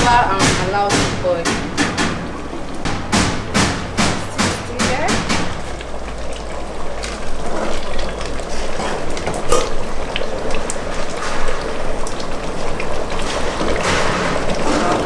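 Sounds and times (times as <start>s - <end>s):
stew sizzling and bubbling in oil: 2.8s - 15.0s.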